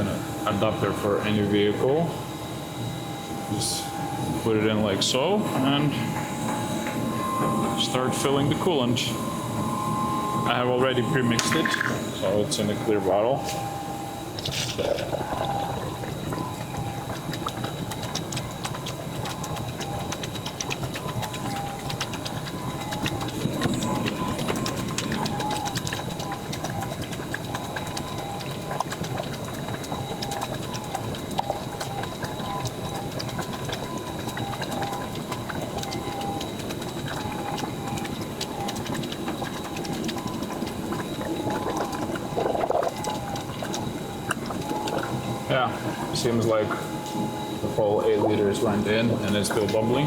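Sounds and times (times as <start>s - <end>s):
coolant glugging into funnel: 0.0s - 50.0s.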